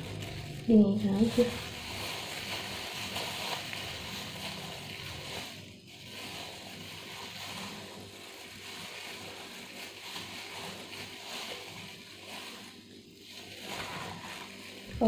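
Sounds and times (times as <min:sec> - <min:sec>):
comb rustling through wet hair: 0:00.0 - 0:15.0.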